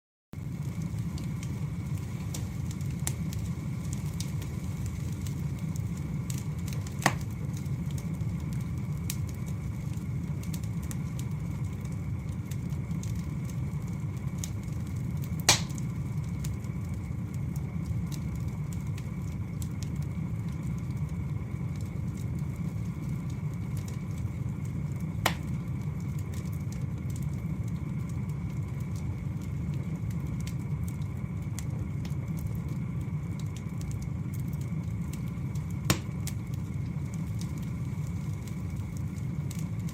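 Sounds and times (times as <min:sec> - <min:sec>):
faint fire crackles: 0:00.4 - 0:39.9
low rumble of flames: 0:00.4 - 0:39.9
sharp fire pops: 0:00.4 - 0:39.9.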